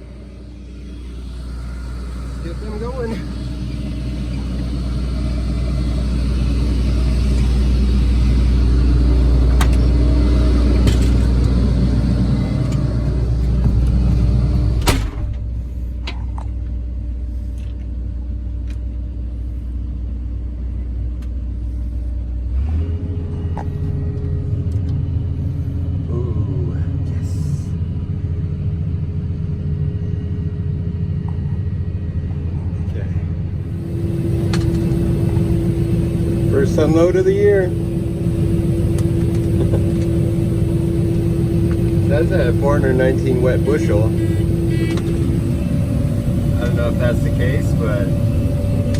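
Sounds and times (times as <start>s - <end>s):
combine harvester engine humming: 0.0s - 48.9s.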